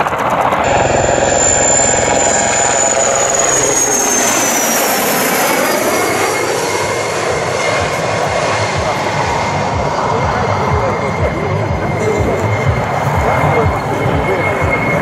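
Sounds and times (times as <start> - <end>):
helicopter rotor chop: 0.0 - 15.0
high turbine whine: 0.5 - 15.0.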